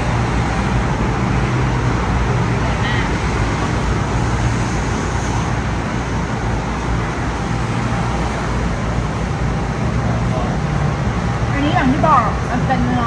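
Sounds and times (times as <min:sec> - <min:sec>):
ambient rumble and hiss: 0:00.0 - 0:13.0.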